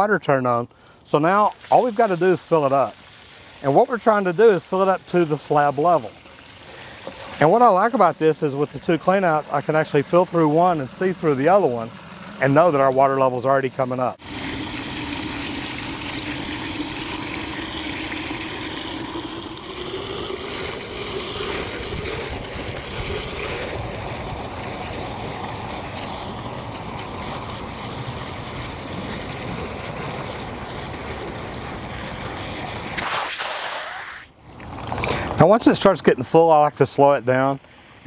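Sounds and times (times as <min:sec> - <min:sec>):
water pouring down a pipe: 0:01.1 - 0:34.1.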